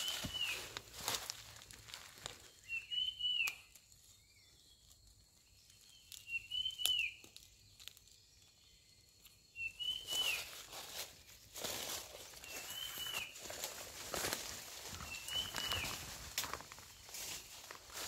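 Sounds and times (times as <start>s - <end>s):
digging in soil and leaves: 0.0s - 18.0s.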